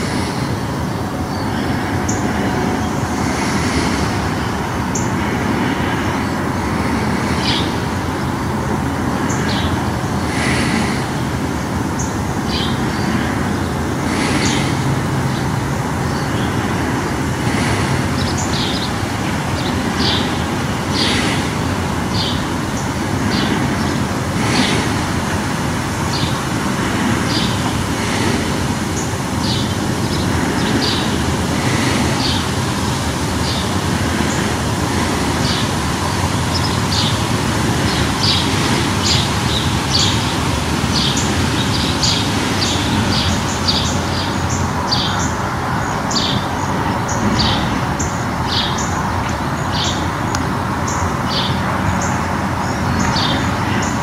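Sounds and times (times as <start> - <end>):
birds chirping: 0.0 - 54.0
steady low rumble: 0.0 - 54.0.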